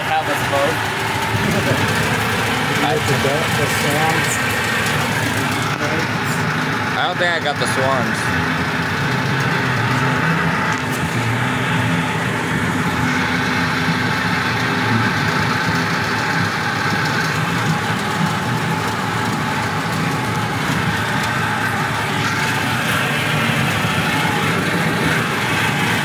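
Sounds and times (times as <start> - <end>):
ride engine drone: 0.0 - 26.0.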